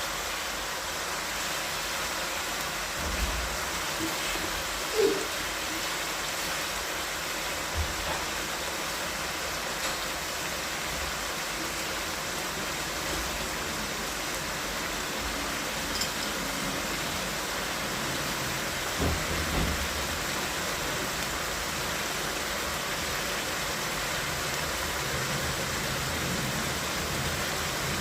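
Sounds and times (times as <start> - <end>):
chicken sizzling in a pan: 0.0 - 28.0.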